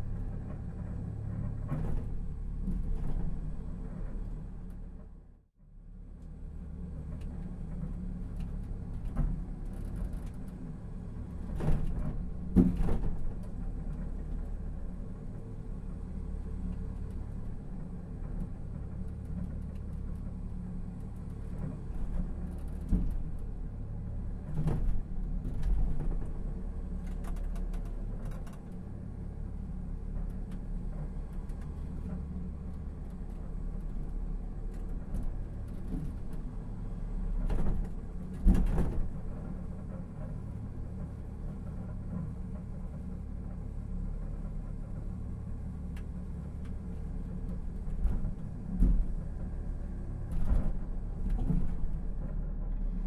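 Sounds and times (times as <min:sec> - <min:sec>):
rail car rumbling on track: 0:00.0 - 0:53.0.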